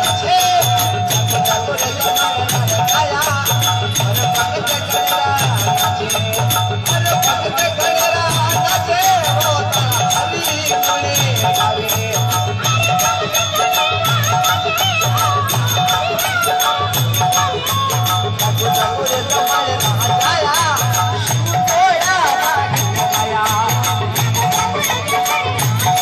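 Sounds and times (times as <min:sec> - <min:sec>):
fast rattling percussion: 0:00.0 - 0:26.0
man singing into a microphone: 0:00.0 - 0:26.0.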